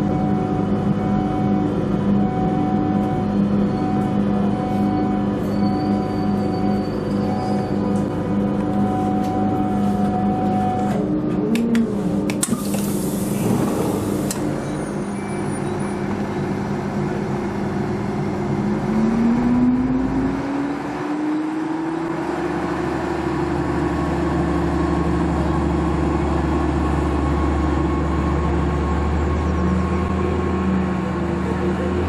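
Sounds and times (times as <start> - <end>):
low diesel rumble with hum: 0.0 - 32.0
train diesel engine: 0.0 - 32.0.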